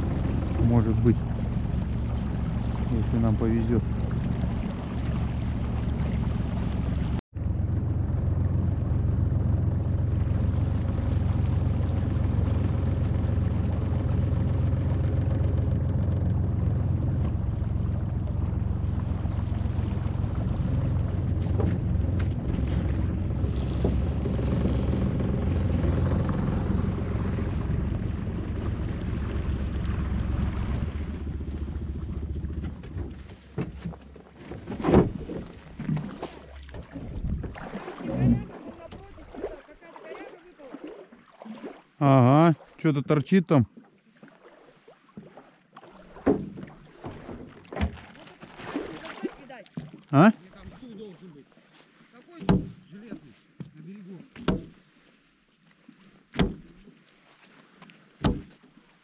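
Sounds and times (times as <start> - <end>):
outboard motor running: 0.0 - 42.5, 43.1 - 51.4, 52.4 - 53.7, 56.3 - 56.9, 58.2 - 58.7.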